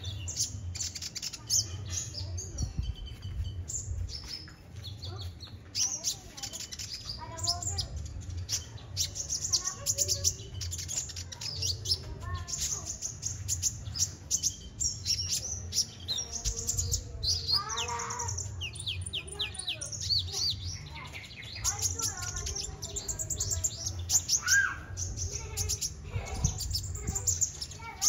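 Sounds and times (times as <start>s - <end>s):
bird singing high chirps: 0.0s - 28.0s.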